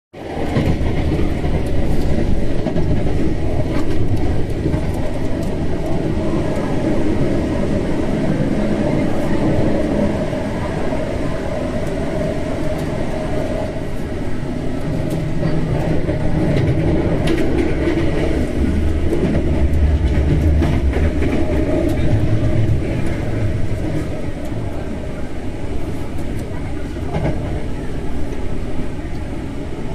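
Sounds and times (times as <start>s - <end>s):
train wheels rumbling on rail: 0.2s - 29.9s.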